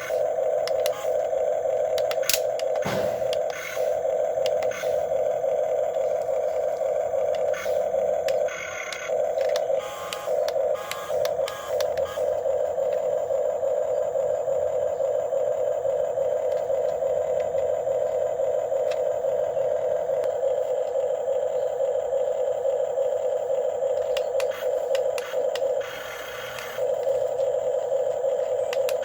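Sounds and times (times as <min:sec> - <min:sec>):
electric gear motors whirring: 0:00.0 - 0:29.0.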